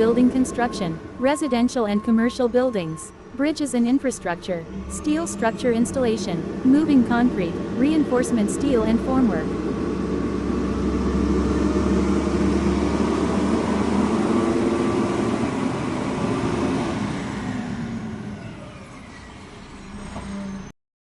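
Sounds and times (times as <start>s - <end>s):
vehicle engine humming: 0.0s - 20.7s.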